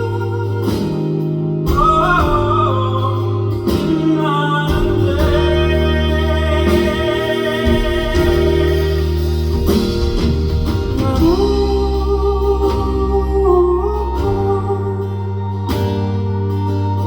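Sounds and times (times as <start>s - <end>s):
rock band playing chords: 0.0s - 17.0s.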